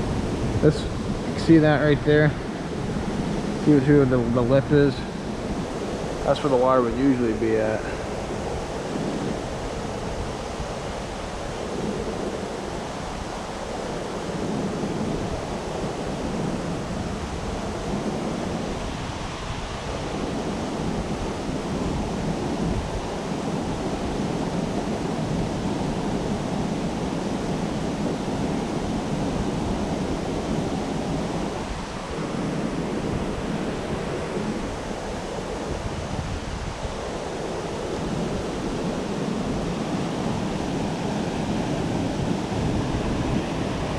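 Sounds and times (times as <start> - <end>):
river rushing: 0.0 - 43.9.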